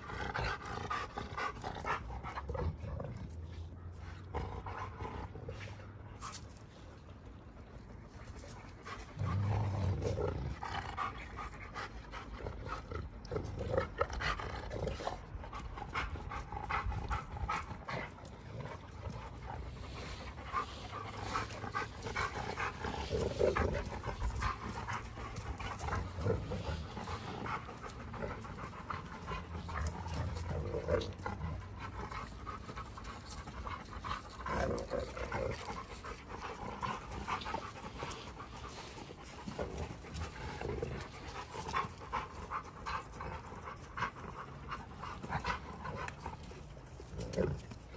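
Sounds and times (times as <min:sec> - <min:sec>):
dogs growling: 0:00.0 - 0:47.9
dogs panting heavily: 0:00.0 - 0:47.9.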